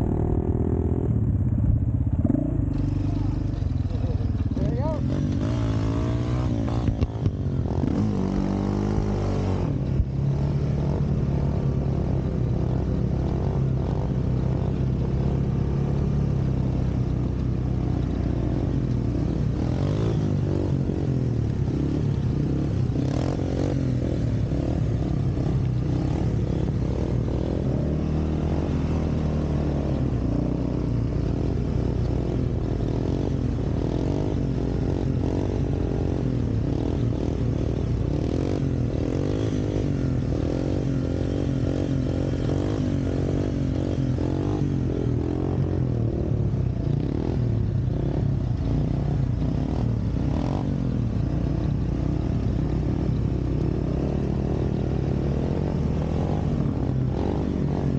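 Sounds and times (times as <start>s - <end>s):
atv engine revving: 0.0s - 1.4s, 2.2s - 57.9s.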